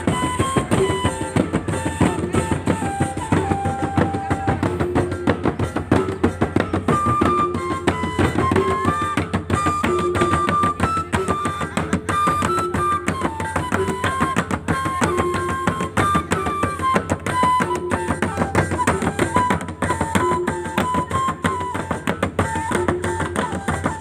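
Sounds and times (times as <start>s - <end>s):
fast drumming on tuned drums: 0.0s - 24.0s.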